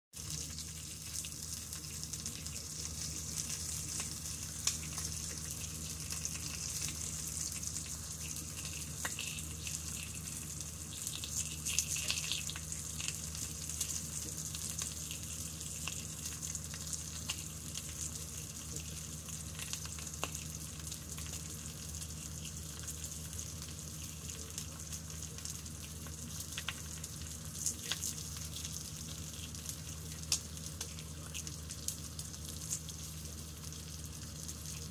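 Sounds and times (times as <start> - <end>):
bacon sizzling in a pan: 0.2 - 34.9
fat popping and crackling: 0.4 - 33.0.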